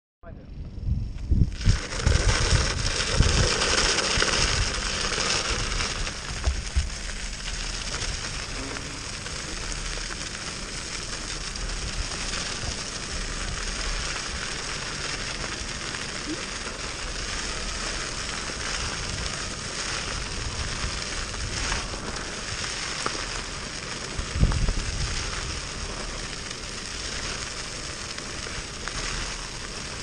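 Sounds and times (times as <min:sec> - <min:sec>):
tyres rolling over gravel: 0:01.3 - 0:30.0.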